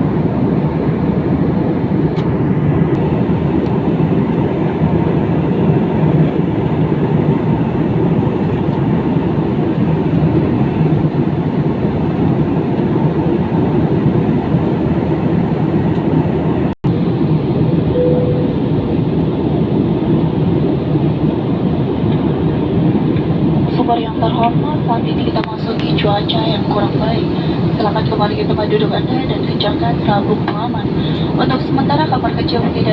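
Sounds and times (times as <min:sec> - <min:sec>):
jet airliner cabin roar: 0:00.0 - 0:32.9.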